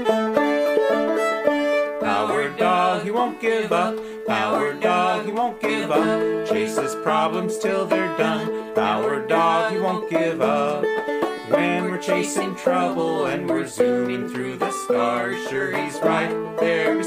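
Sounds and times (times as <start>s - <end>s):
plucked strings music: 0.0s - 17.0s.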